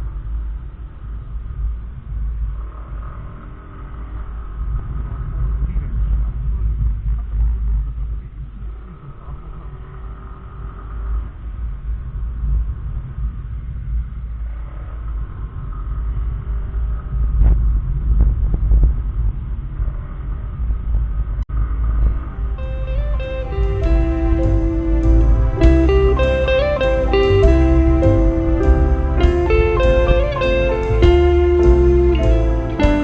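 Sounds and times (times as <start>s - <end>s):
wind rumble on microphone: 0.0s - 26.6s.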